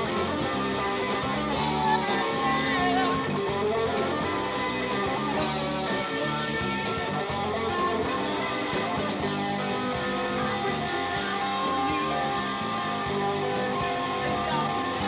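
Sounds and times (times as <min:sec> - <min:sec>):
guitar rock music: 0:00.0 - 0:15.0.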